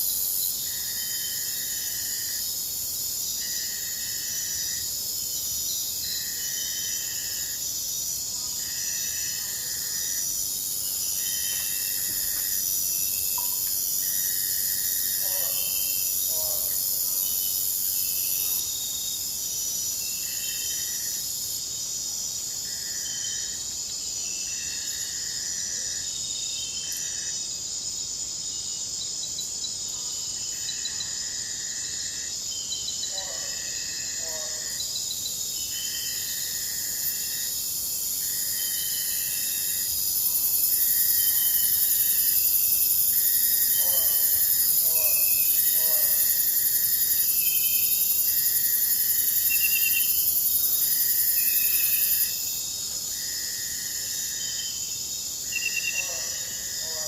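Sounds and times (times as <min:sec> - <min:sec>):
insect buzzing call: 0:00.0 - 0:57.0
insects trilling: 0:00.0 - 0:57.0.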